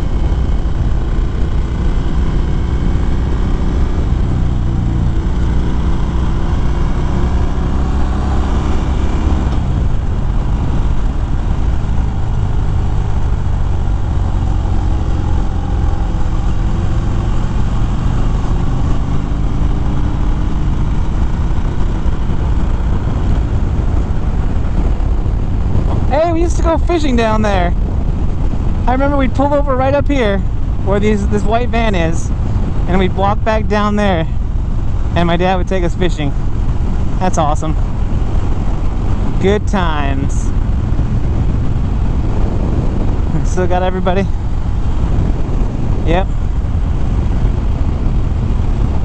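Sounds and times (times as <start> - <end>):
motorcycle engine: 0.0 - 49.0
wind rushing on microphone: 0.0 - 49.0.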